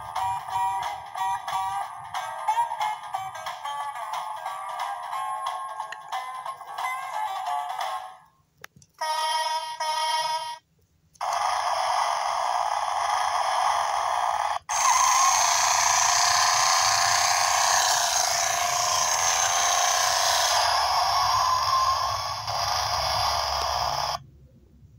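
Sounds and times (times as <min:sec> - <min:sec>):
toy truck motor whirring: 0:00.0 - 0:07.1, 0:11.2 - 0:24.2.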